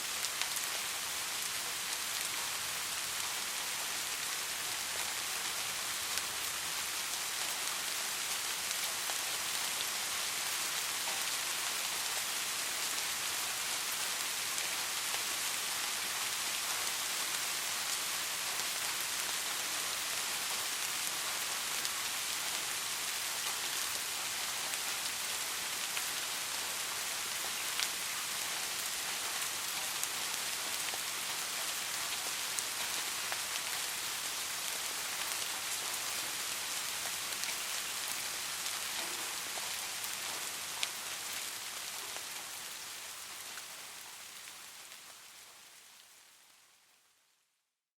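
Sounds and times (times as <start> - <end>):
soft rain falling: 0.0 - 47.6.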